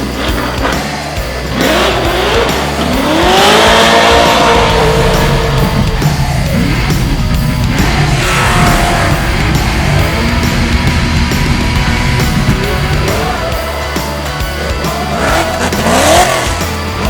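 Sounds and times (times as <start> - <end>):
background music with heavy beat: 0.0 - 17.0
race car engine accelerating: 0.0 - 17.0.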